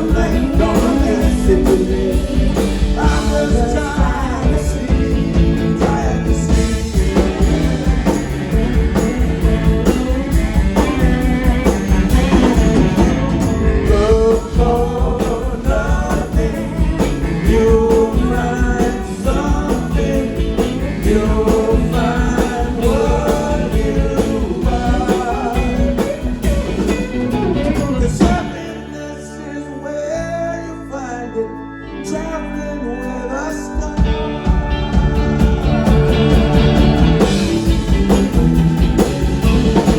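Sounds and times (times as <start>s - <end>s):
held guitar chords: 0.0s - 39.9s
live rock band: 0.0s - 39.9s
person singing: 0.0s - 39.9s.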